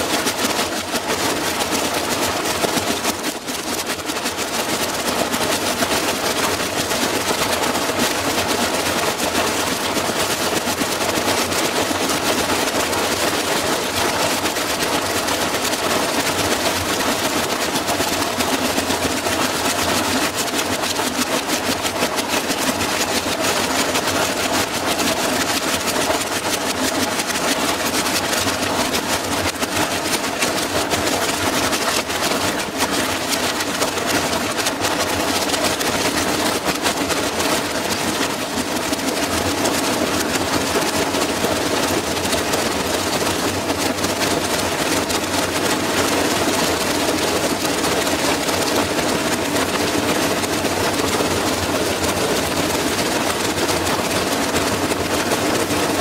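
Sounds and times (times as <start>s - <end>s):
washing machine hum: 0.0s - 56.0s
washing machine rattling and banging: 0.0s - 56.0s.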